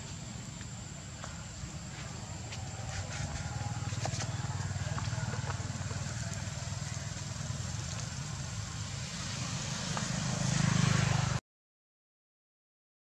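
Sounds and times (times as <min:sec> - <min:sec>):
vehicle engine humming: 0:00.0 - 0:11.4.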